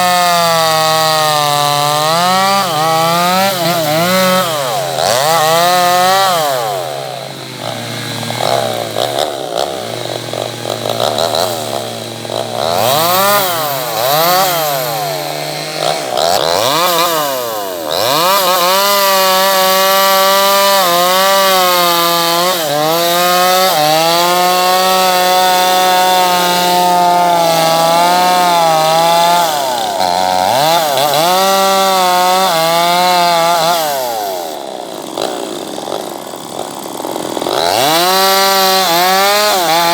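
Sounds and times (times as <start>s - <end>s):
chain cutting wood: 0.0s - 39.9s
chainsaw engine revving: 0.0s - 39.9s.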